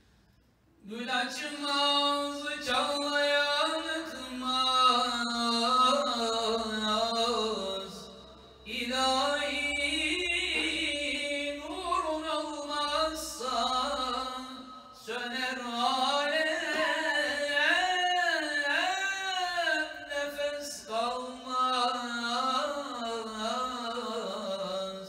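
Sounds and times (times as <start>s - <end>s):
man chanting: 0.8s - 25.0s.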